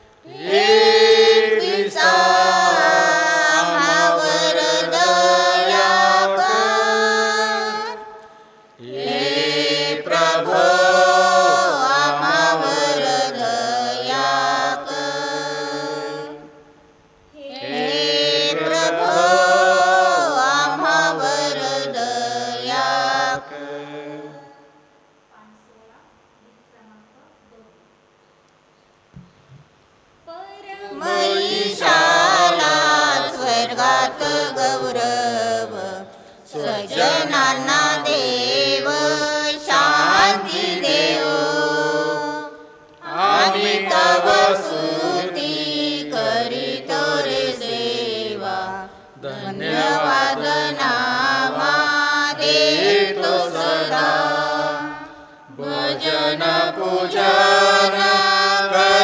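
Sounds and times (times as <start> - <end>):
men singing a liturgical chant: 0.3 - 8.0, 8.8 - 16.5, 17.6 - 24.6, 31.0 - 59.0.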